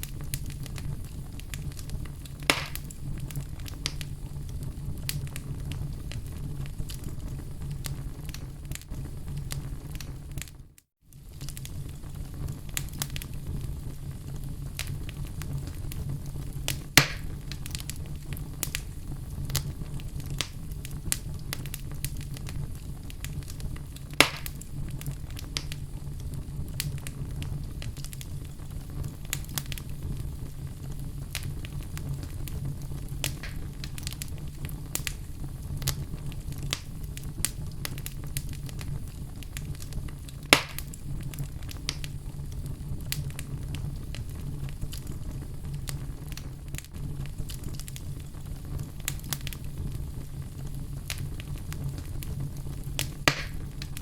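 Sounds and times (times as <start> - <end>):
fire crackling: 0.0 - 54.0
loud sharp pops of fire: 0.0 - 54.0.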